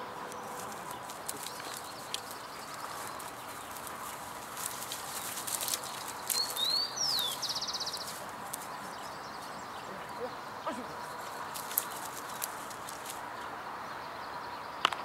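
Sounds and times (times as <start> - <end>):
background hiss: 0.0 - 14.8.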